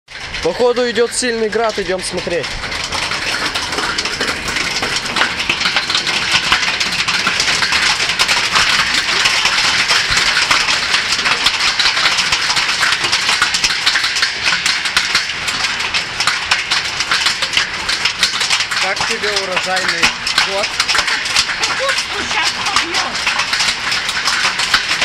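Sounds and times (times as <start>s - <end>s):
hail clattering: 0.1s - 25.0s
rain hiss: 0.1s - 25.0s.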